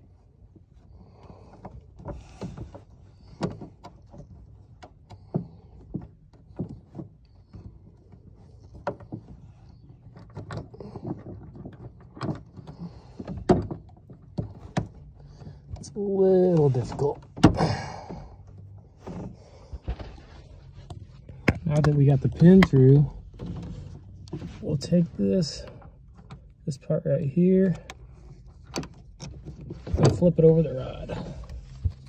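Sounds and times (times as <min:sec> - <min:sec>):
gas pedal parts clicking and knocking: 0:00.0 - 0:32.0.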